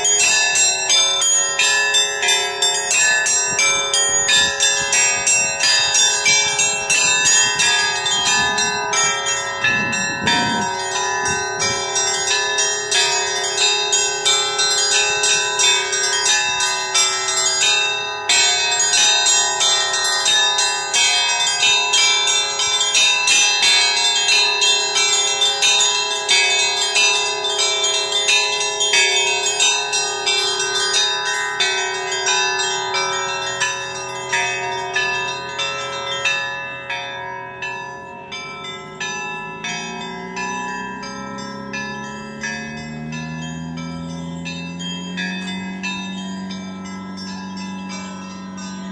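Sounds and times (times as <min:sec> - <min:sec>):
church bells pealing rapidly: 0:00.0 - 0:48.9
low bell tone ringing: 0:00.0 - 0:48.9.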